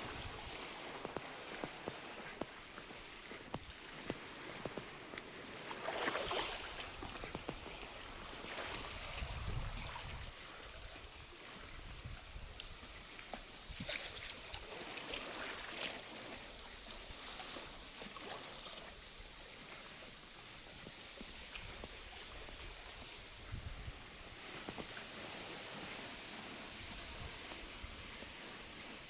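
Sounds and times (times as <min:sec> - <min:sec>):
water lapping and trickling: 0:00.0 - 0:29.0.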